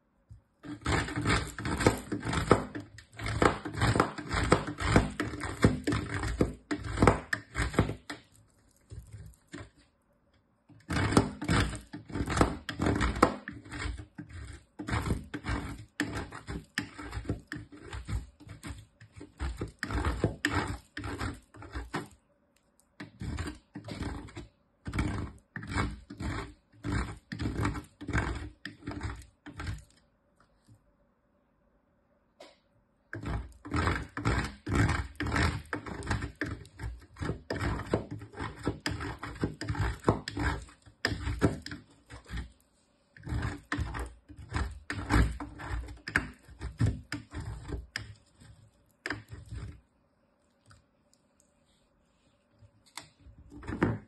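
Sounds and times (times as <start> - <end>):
soap grated on metal grater: 0.6 - 9.8, 10.7 - 22.2, 23.0 - 30.0, 33.1 - 42.6, 43.2 - 49.8, 53.0 - 54.0.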